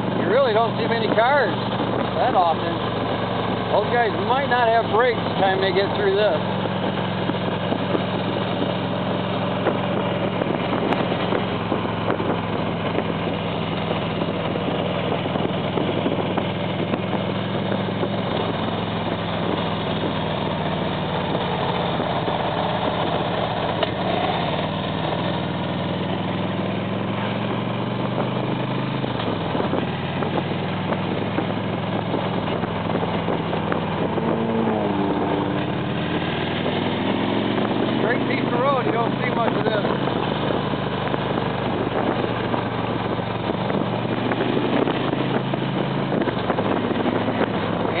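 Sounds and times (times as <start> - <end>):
motorcycle engine running: 0.0 - 48.0
road noise: 0.0 - 48.0
wind noise: 0.0 - 48.0.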